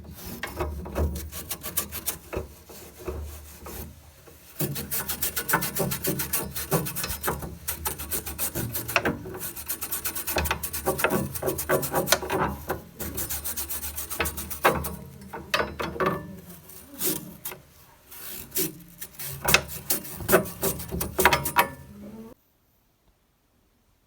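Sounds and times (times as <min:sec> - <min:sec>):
scrubbing and scraping strokes: 0:00.0 - 0:22.4.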